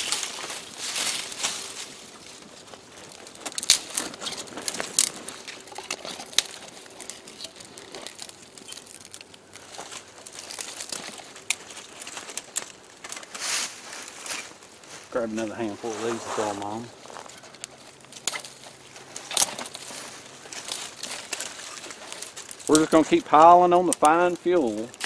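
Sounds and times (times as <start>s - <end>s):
dry sticks snapping: 0.0s - 13.4s, 16.6s - 25.0s
campfire crackling: 0.0s - 25.0s
rustling: 0.0s - 25.0s.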